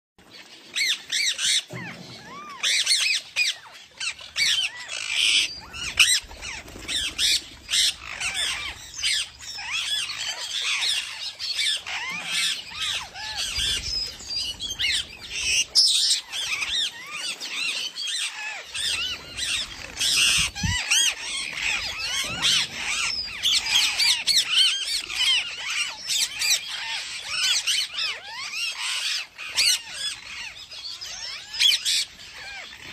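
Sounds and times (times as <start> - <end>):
parrots chirping: 0.7 - 32.9.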